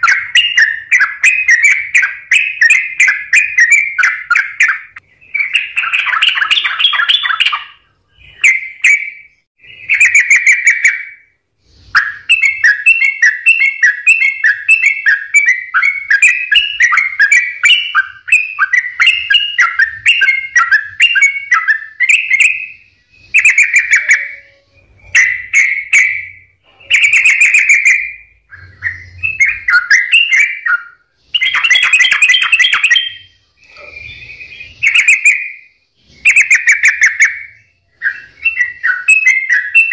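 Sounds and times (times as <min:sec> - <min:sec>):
bulbul singing warbled notes: 0:00.0 - 0:39.9.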